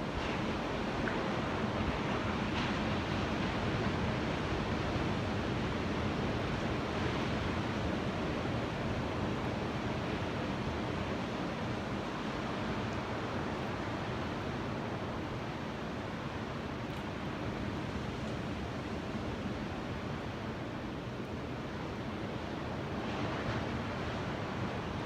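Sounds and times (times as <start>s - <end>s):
ocean surf washing: 0.0s - 25.0s.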